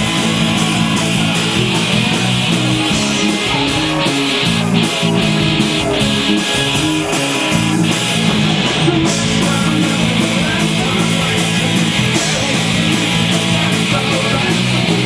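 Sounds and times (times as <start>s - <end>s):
drums and cymbals: 0.0s - 15.0s
electric guitar chords: 0.0s - 15.0s
live dance punk band playing: 0.0s - 15.0s.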